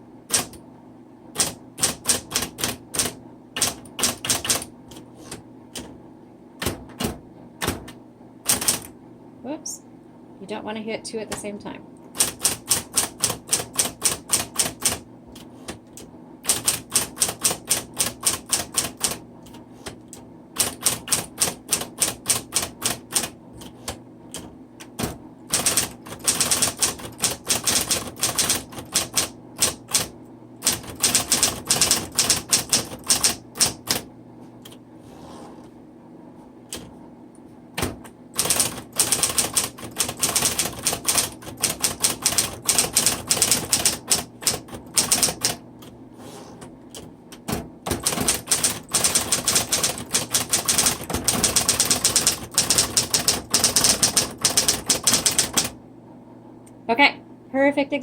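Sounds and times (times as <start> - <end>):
room heater humming: 0.0 - 58.0
electric typewriter typing: 0.3 - 0.6, 1.3 - 6.0, 6.6 - 8.9, 12.1 - 34.8, 37.8 - 46.0, 46.9 - 55.8.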